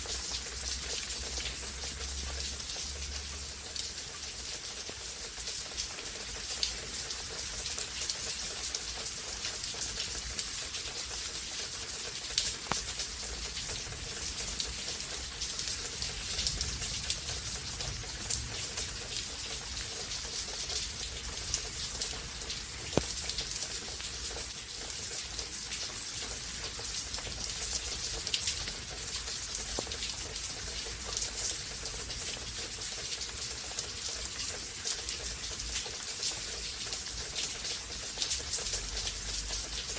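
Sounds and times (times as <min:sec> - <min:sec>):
raindrops ticking on surfaces: 0:00.0 - 0:39.9
steady rain hiss: 0:00.0 - 0:39.9.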